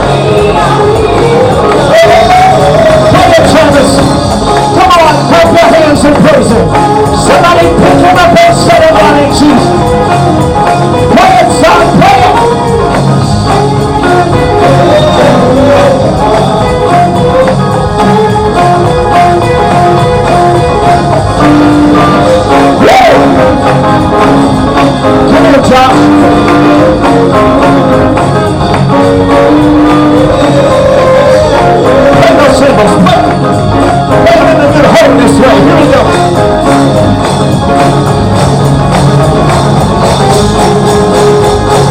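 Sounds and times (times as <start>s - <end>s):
busy percussion beat: 0.0s - 41.9s
gospel singing: 0.0s - 41.9s
held keyboard notes: 0.0s - 41.9s.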